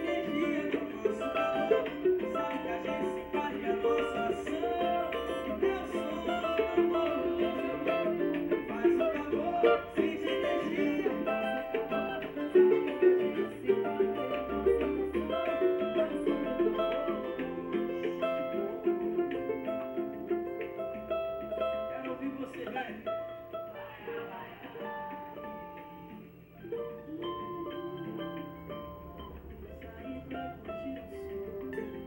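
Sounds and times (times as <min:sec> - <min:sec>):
band playing: 0:00.0 - 0:32.0
small guitar strumming: 0:00.0 - 0:32.0.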